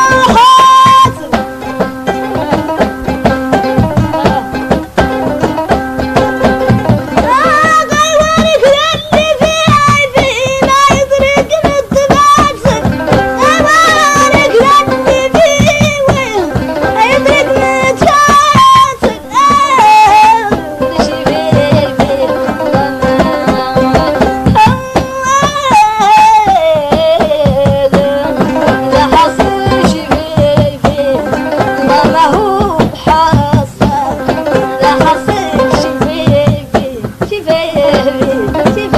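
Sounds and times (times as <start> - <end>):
person singing ornamented phrases: 0.0 - 38.9
plucked string instrument: 0.0 - 38.9
steady drum beat: 0.0 - 38.9.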